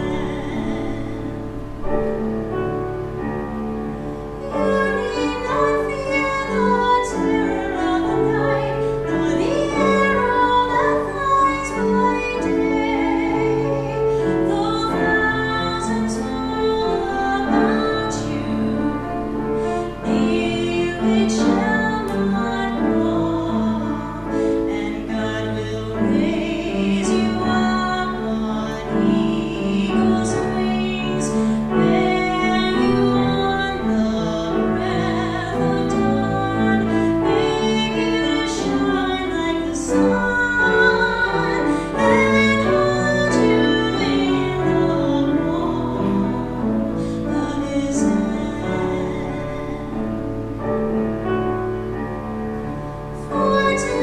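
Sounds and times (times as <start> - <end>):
woman singing: 0.0 - 2.3, 4.3 - 51.8, 53.0 - 54.0
piano: 0.0 - 54.0.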